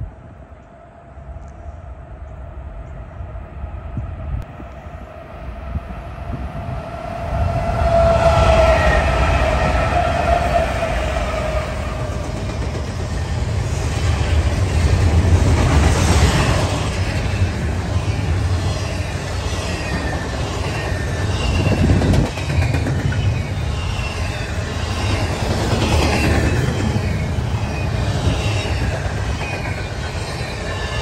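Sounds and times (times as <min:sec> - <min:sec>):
diesel locomotive engine rumble: 0:00.0 - 0:31.0.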